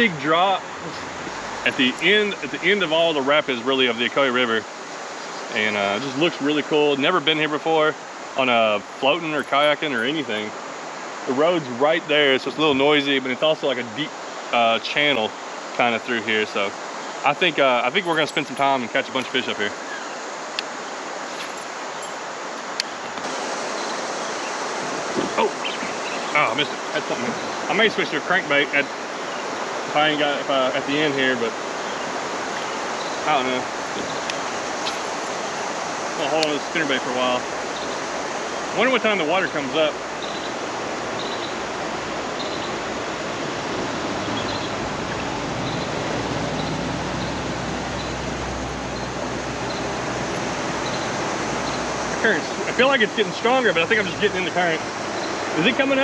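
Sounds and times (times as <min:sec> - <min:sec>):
river rapids rushing: 0:00.0 - 0:56.0.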